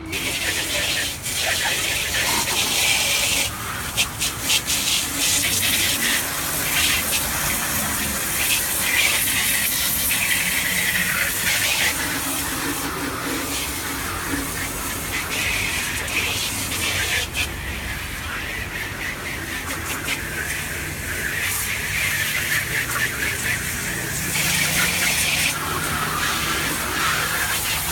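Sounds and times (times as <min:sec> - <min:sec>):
water spraying onto a refrigerator: 0:00.0 - 0:27.9.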